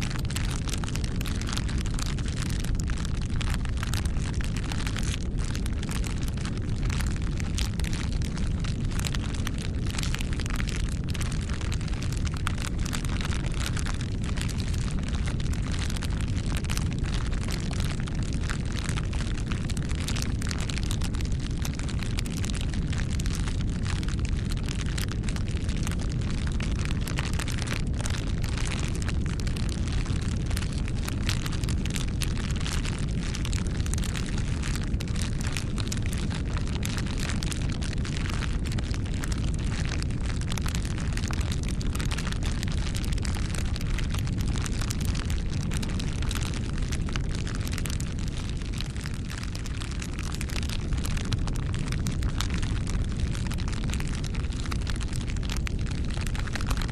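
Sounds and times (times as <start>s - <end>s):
burning wood crackling: 0.0s - 56.9s
low rumble of flames: 0.0s - 56.9s.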